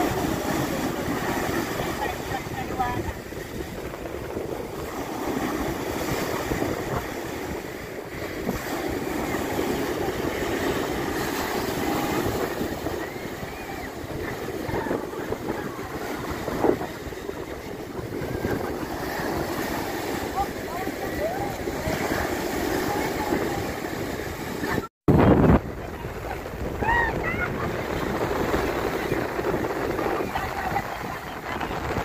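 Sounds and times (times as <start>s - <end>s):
ocean waves breaking: 0.0s - 32.0s
wind buffeting microphone: 0.0s - 32.0s.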